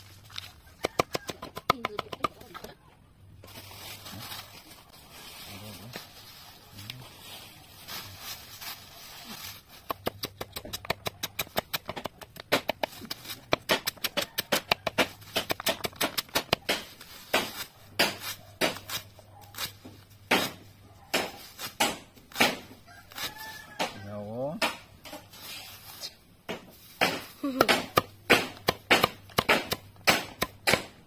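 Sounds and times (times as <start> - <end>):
machete chopping leaves on wood: 0.1 - 2.8, 8.0 - 31.0.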